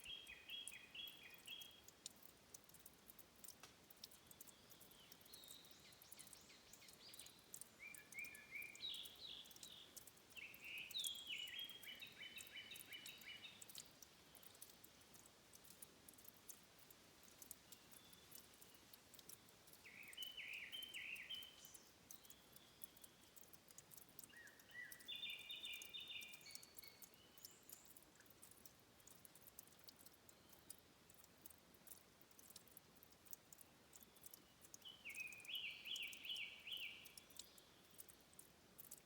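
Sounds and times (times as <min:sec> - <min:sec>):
faint high ticks: 0:00.0 - 0:39.0
songbird singing: 0:00.0 - 0:39.0.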